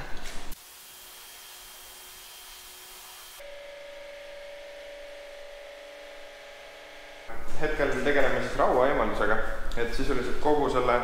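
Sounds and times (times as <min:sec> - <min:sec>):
machine hum: 0:00.5 - 0:10.0.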